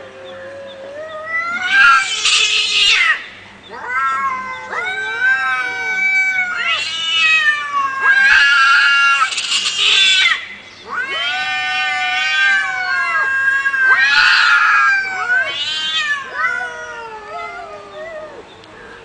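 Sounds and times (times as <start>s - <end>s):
cats yowling and screeching: 0.0s - 19.0s.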